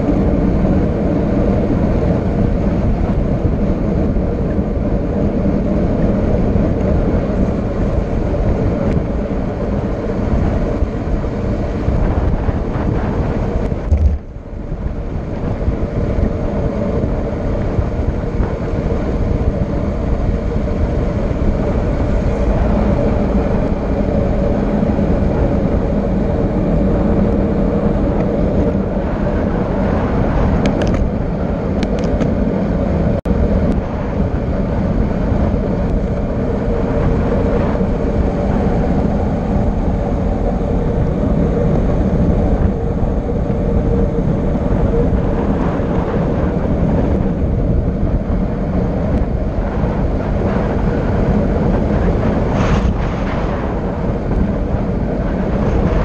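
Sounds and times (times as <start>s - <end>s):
road noise: 0.0s - 56.0s
wind on microphone: 0.0s - 56.0s.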